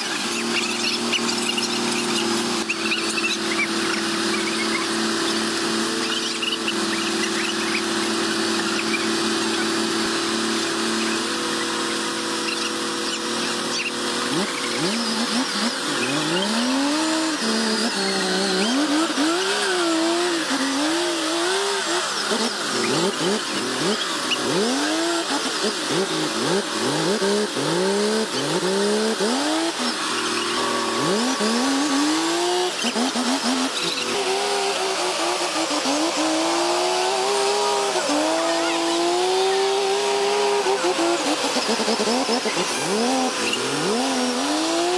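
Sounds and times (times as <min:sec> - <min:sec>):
engine revving: 0:00.0 - 0:44.9.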